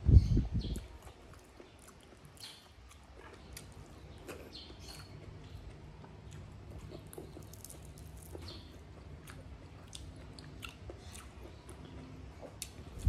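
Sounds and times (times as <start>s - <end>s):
soft chewing with wet smacks: 0.5s - 13.0s.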